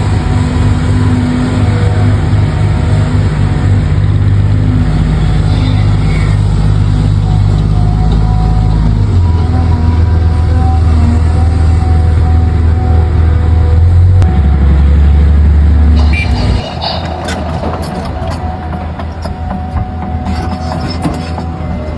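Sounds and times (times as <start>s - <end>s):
toy truck engine drone: 0.0s - 21.9s.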